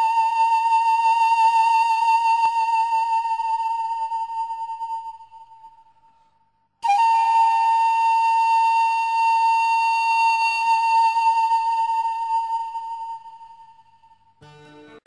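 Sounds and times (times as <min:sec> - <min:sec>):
steady whistle-like tone: 0:00.0 - 0:06.1, 0:06.8 - 0:14.3.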